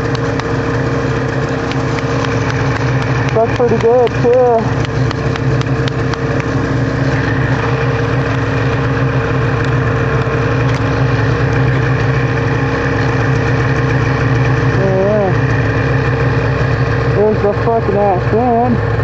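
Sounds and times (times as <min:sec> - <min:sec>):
snowmobile engine idling: 0:00.0 - 0:19.0.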